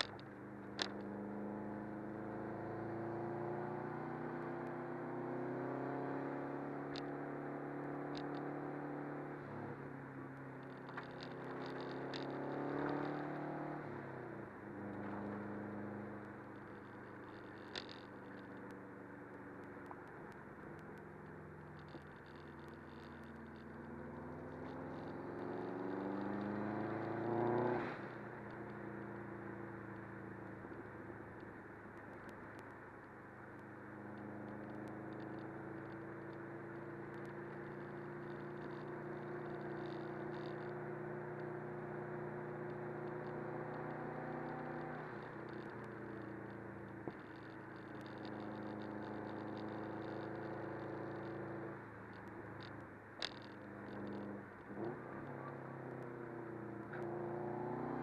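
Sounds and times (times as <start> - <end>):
car engine revving: 0.0 - 31.5, 33.9 - 58.0
road noise: 0.0 - 58.0.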